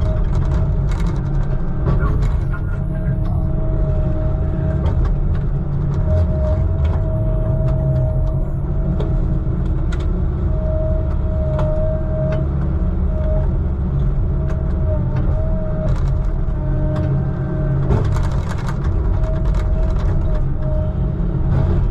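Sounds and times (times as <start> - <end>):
truck engine rumbling: 0.0 - 21.9.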